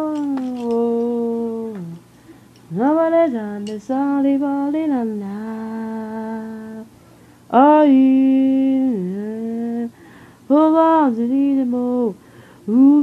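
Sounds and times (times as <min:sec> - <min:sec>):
woman humming a slow tune: 0:00.0 - 0:02.1, 0:02.7 - 0:06.9, 0:07.5 - 0:13.0.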